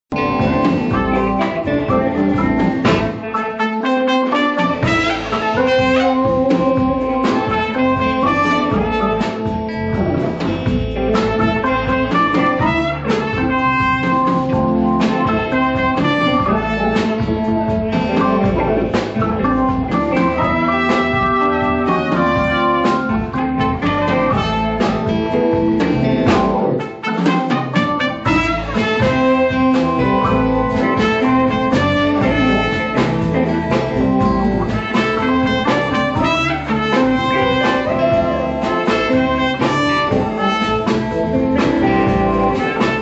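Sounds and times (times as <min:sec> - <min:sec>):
live blues band playing: 0:00.0 - 0:43.0
trumpet: 0:00.1 - 0:10.3, 0:10.9 - 0:43.0.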